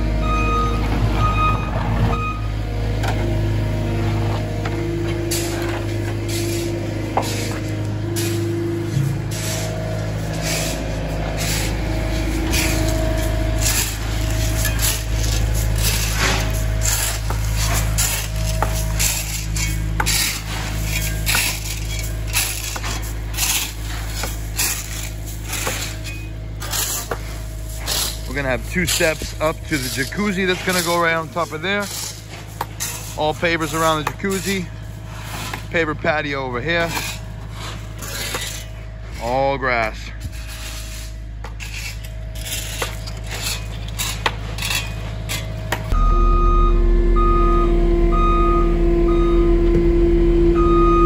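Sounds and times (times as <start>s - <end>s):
rakes and shovels scraping gravel: 0.0s - 46.0s
engine humming: 0.0s - 51.0s.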